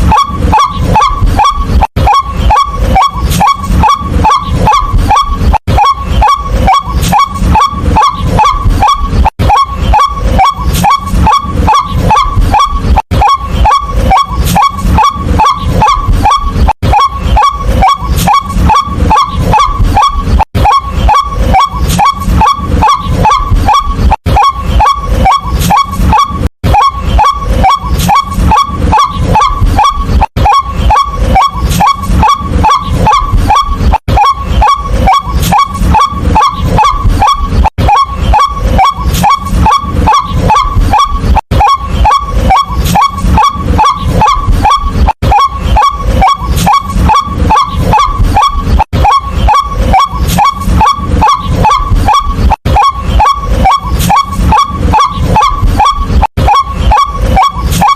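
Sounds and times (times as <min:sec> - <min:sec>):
waterhen kwak calls: 0:00.0 - 0:57.9.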